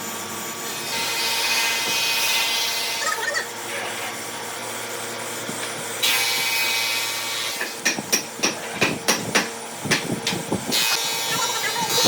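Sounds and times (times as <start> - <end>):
power tool running: 0.0 - 12.0.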